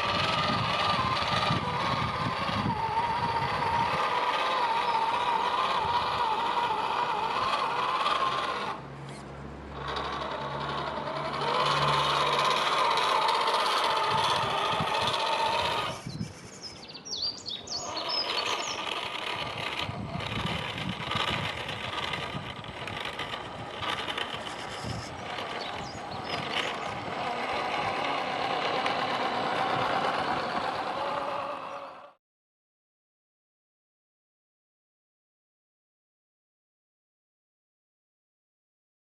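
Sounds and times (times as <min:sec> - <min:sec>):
electric motor whining: 0:00.0 - 0:32.2.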